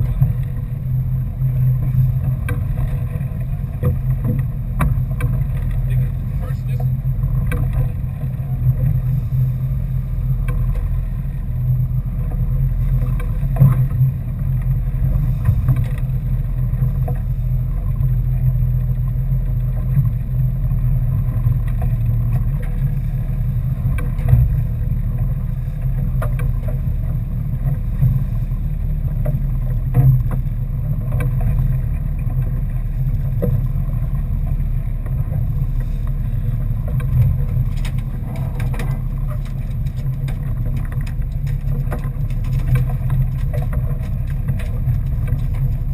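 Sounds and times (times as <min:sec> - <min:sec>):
boat engine running: 0:00.0 - 0:45.9
water rushing past hull: 0:00.0 - 0:45.9
wind: 0:00.0 - 0:45.9.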